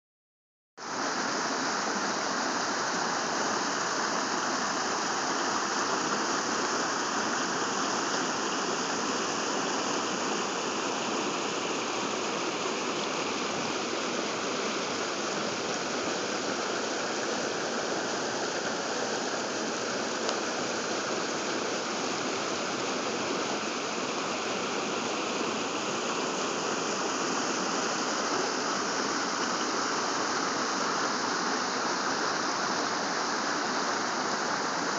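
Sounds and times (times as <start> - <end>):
stream rushing over boulders: 0.8 - 34.9.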